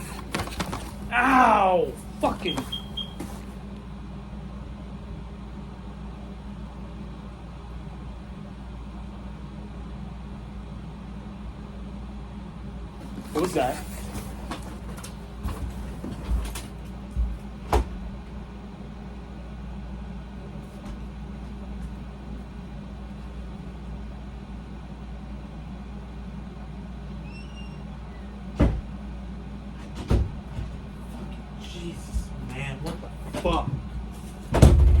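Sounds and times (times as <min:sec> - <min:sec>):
air conditioner drone: 0:00.0 - 0:35.0.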